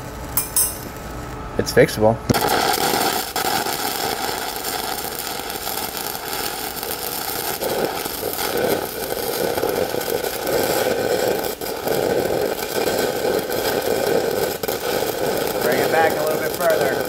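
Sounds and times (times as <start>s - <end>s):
welding arc crackling hiss: 0.0s - 17.0s.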